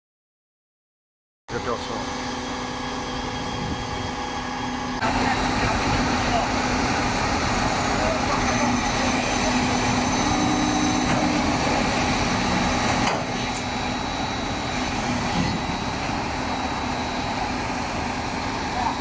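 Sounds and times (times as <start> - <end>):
heavy machinery engine running: 1.5 - 19.0.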